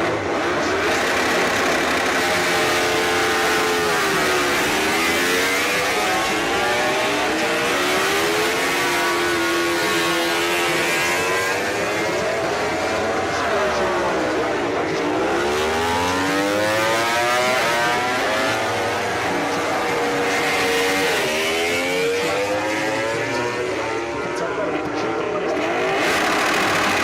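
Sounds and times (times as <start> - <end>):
racing motorcycle engines: 0.0 - 27.0.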